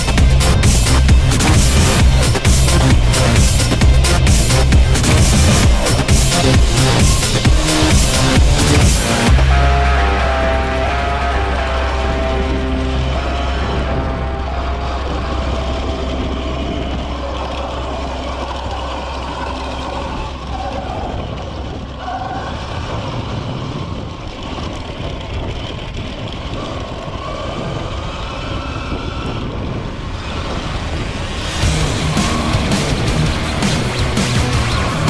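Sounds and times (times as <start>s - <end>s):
wind and tyre noise: 0.0s - 35.0s.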